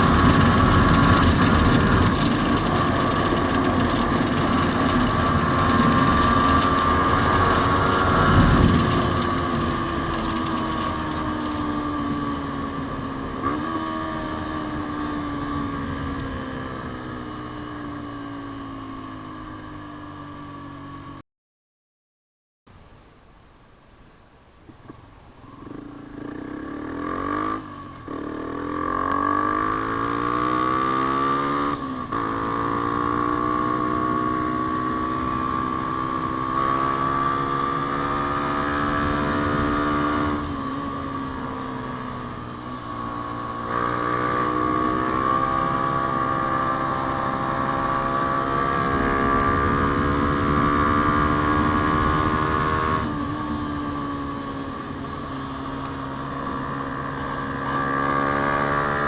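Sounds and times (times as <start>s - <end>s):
motorcycle engine accelerating: 0.0s - 21.2s, 25.4s - 59.0s.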